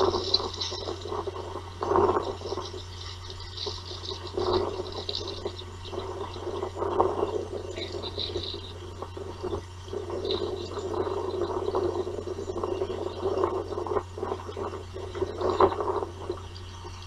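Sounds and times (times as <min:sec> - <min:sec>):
fluttering noise: 0:00.0 - 0:17.0
low electrical hum: 0:00.0 - 0:17.0.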